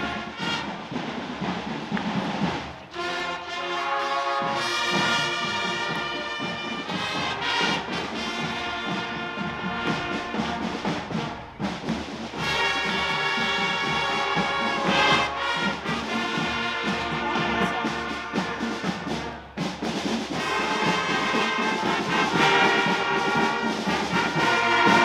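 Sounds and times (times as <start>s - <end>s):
marching band brass playing: 0.0s - 25.0s.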